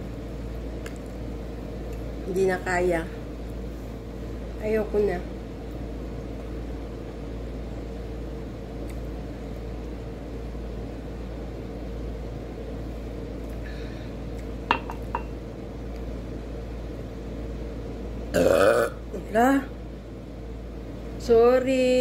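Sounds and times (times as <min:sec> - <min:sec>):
fan humming: 0:00.0 - 0:22.0.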